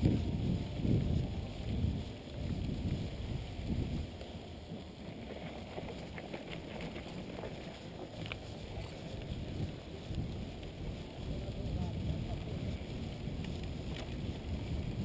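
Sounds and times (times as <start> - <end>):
bike rattling: 0.0 - 15.0
bike tyres rolling: 0.0 - 15.0
wind buffeting microphone: 0.0 - 15.0.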